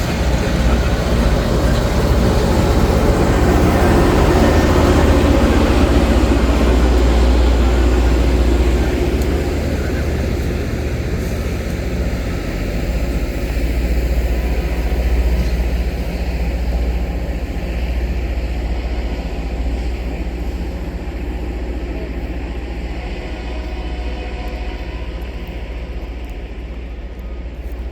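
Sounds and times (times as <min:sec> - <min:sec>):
train rumbling past: 0:00.0 - 0:27.9.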